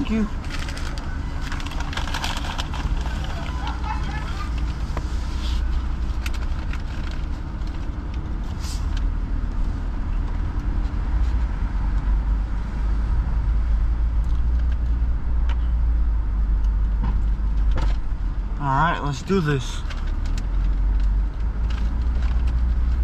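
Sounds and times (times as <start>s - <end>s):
car engine rumble: 0.0s - 23.0s
road noise inside car: 0.0s - 23.0s.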